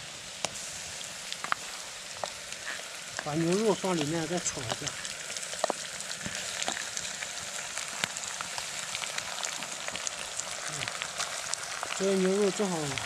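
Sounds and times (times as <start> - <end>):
beef sizzling and popping in oil: 0.0 - 13.0.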